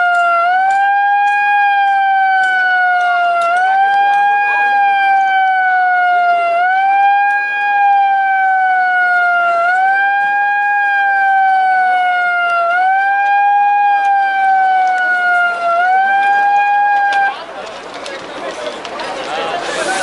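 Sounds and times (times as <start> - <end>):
siren wailing: 0.0 - 17.4.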